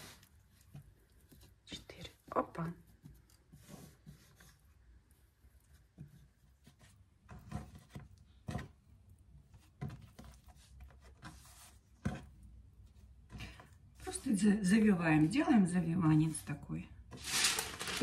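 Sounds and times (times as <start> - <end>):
hands rubbing dough: 0.0 - 18.0.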